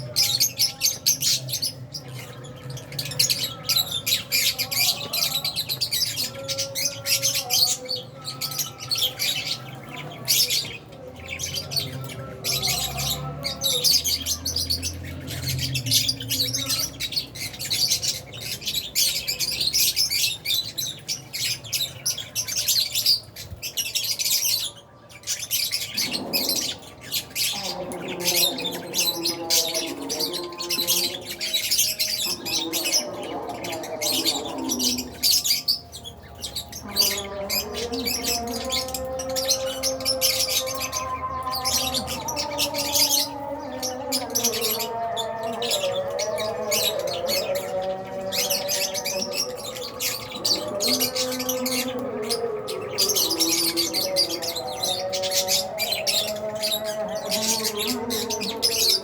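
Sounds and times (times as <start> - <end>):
lovebirds chirping and squawking: 0.0 - 59.0.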